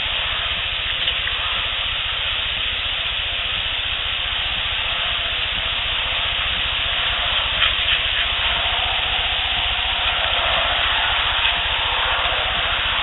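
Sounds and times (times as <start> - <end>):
faint clicks: 0.0 - 13.0
low rumble: 0.0 - 13.0
steady hiss: 0.0 - 13.0.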